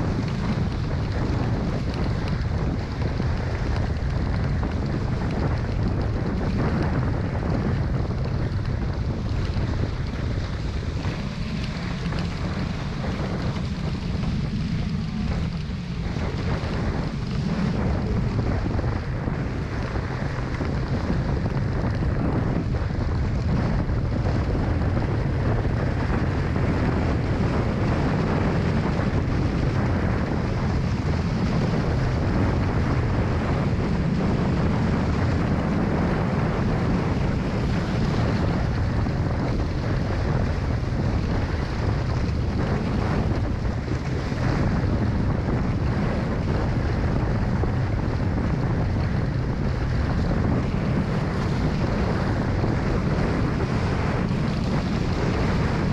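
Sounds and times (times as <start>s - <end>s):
water rushing past boat: 0.0s - 55.9s
wind buffeting microphone: 0.0s - 55.9s.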